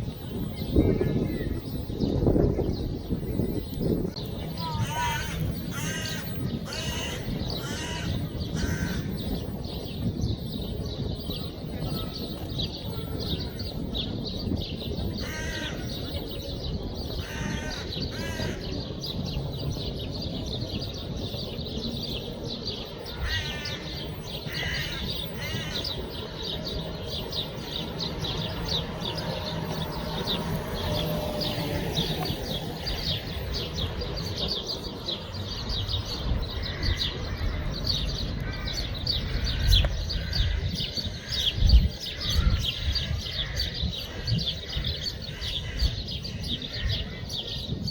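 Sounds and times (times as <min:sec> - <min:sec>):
small birds chirping: 0:00.0 - 0:47.9
harsh bird calls: 0:04.2 - 0:47.9.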